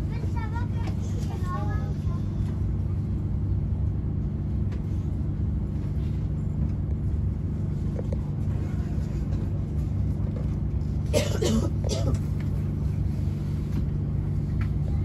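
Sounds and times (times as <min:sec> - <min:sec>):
train cabin rumble and hum: 0:00.0 - 0:15.0.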